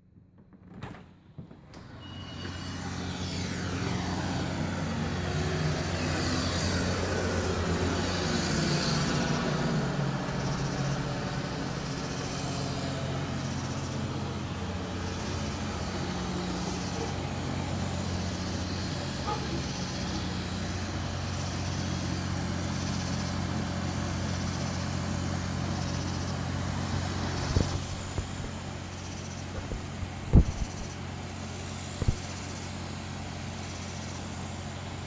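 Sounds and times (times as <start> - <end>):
loud machinery drone: 1.8 - 35.0.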